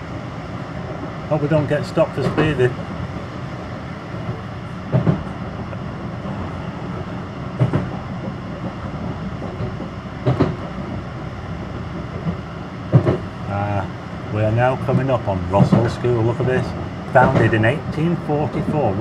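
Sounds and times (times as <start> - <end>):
tram clunks: 0.0 - 19.0
tram wheels rumbling on rails: 0.0 - 19.0.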